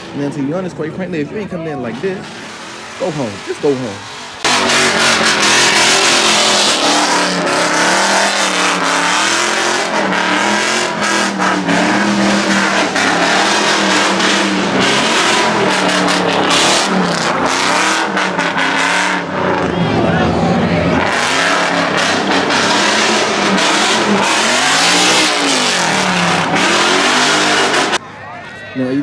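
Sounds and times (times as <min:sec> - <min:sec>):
loud rushing noise: 0:01.9 - 0:28.0
car engine revving hard: 0:02.0 - 0:28.0.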